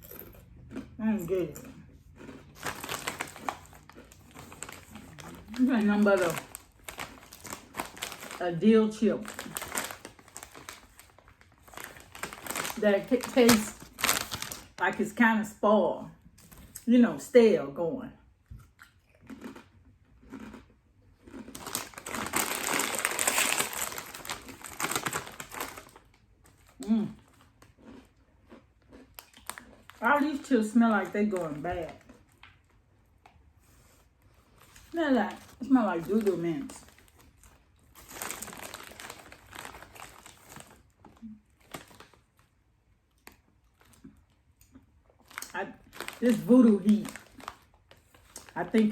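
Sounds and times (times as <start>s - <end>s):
chip bag crinkling: 0.0s - 15.1s, 19.2s - 20.6s, 21.2s - 32.7s, 34.4s - 44.4s, 45.1s - 48.9s.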